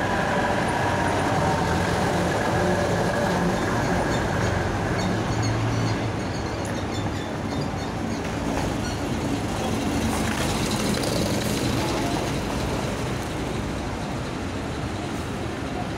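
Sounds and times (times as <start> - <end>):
bus engine passing: 0.0 - 15.9
other bus engines: 0.0 - 15.9.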